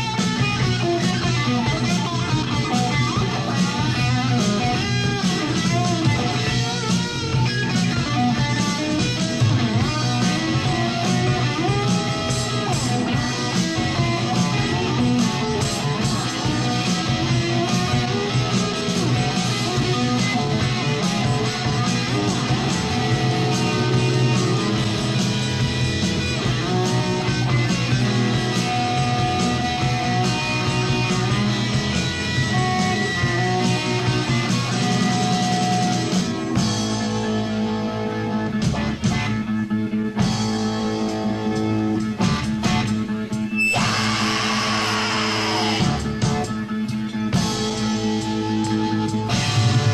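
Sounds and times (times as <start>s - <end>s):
rock band playing: 0.0s - 49.9s
strummed electric guitar: 0.0s - 49.9s.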